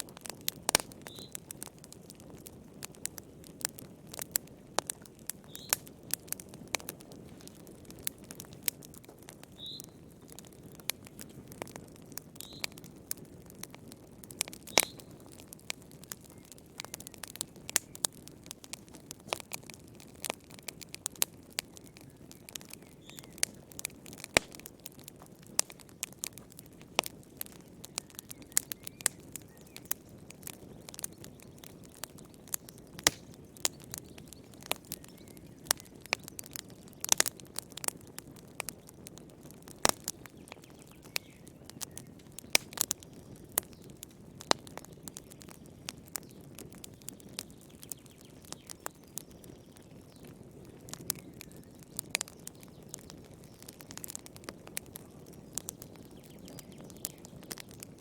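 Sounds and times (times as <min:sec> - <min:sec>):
low hiss of flames: 0:00.0 - 0:58.0
wood fire crackling and popping: 0:00.0 - 0:58.0.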